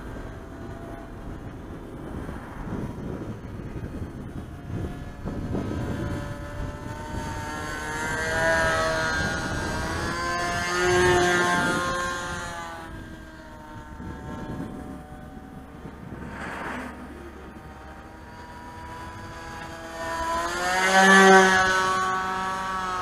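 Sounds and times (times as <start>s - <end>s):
model plane engine buzzing past: 0.0s - 23.0s.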